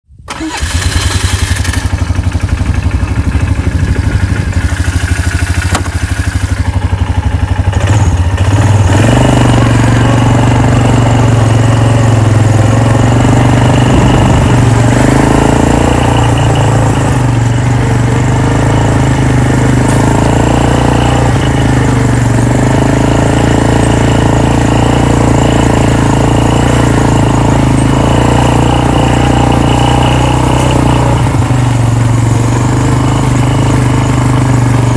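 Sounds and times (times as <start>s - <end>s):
atv engine puttering: 0.3s - 34.9s.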